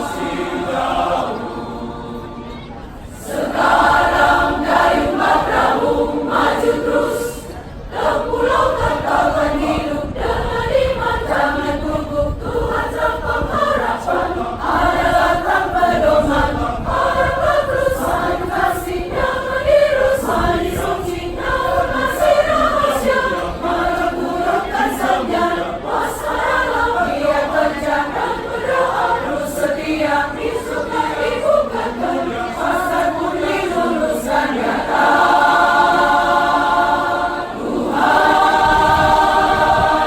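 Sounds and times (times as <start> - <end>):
church choir singing: 0.0 - 40.0.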